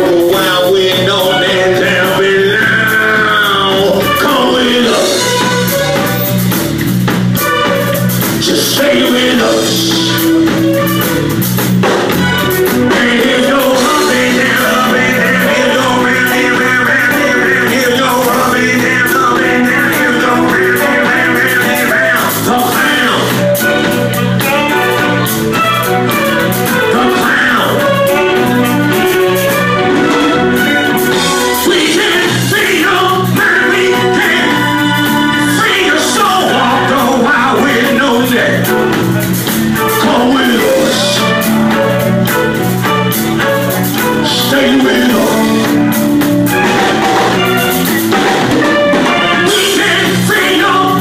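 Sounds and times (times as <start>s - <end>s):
person singing: 0.0s - 6.5s, 7.4s - 11.3s, 11.9s - 51.0s
bass line: 0.0s - 51.0s
drums: 0.0s - 51.0s
live band playing: 0.0s - 51.0s.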